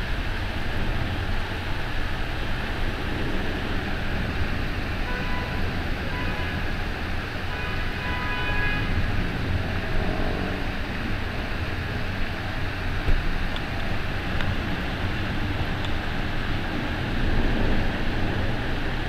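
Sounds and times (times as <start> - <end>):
storm rain: 0.0 - 19.0
wind: 0.0 - 19.0.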